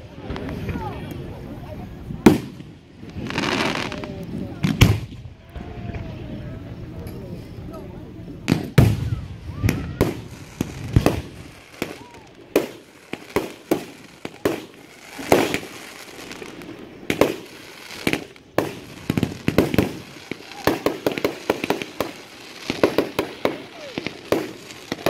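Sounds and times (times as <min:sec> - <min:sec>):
fireworks bursting: 0:02.1 - 0:06.0, 0:08.4 - 0:25.0.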